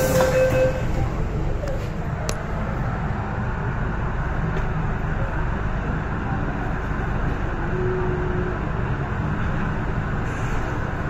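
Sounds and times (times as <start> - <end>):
train carriage rumble and hiss: 0.0 - 11.0.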